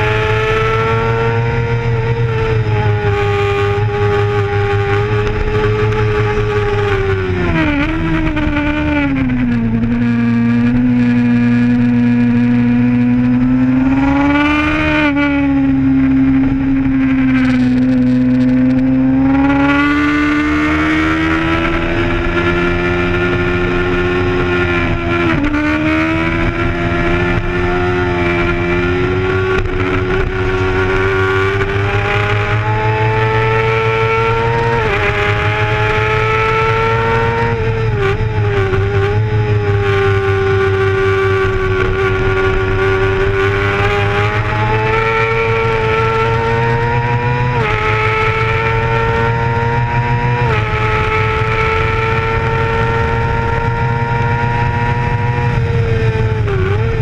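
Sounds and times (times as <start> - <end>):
sport bike engine at high revs: 0.0 - 57.0.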